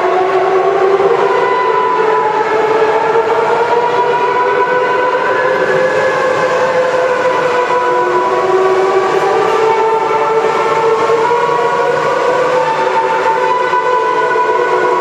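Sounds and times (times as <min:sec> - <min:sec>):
factory machinery whine: 0:00.0 - 0:15.0.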